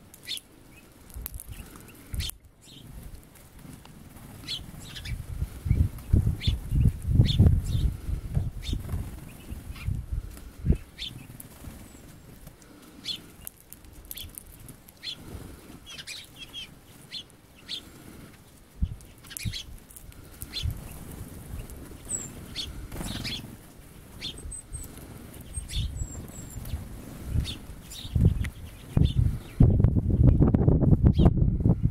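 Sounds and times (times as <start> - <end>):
birds chirping: 0.0 - 3.0, 3.6 - 30.5
bird wingbeats: 1.3 - 29.7.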